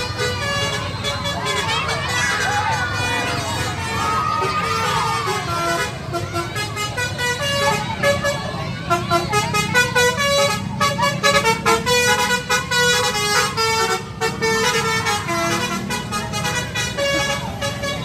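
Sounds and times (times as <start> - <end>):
bus engine rumble: 0.0 - 18.0
bus horn playing a melody: 0.0 - 18.0.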